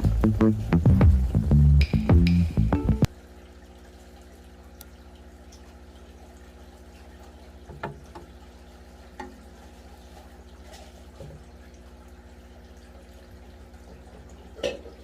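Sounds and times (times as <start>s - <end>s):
water drips: 0.0s - 15.0s.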